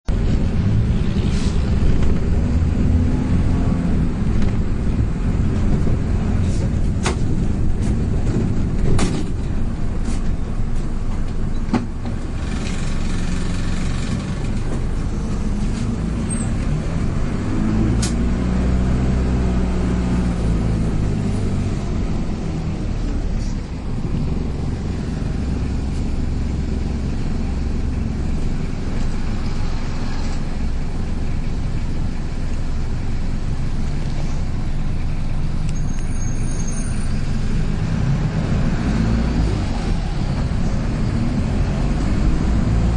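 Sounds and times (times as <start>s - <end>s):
bus engine and road rumble: 0.0s - 42.9s.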